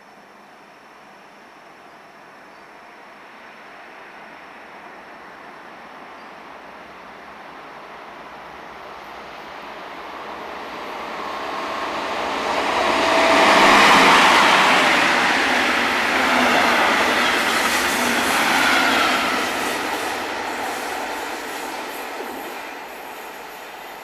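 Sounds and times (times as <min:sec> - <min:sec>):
train passing at speed: 0:00.2 - 0:24.0.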